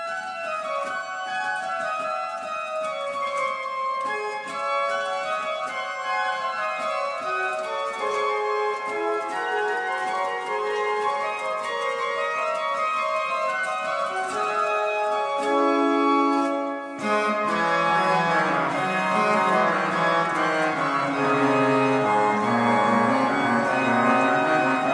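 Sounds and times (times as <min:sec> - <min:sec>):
pipe organ playing: 0:00.1 - 0:24.9.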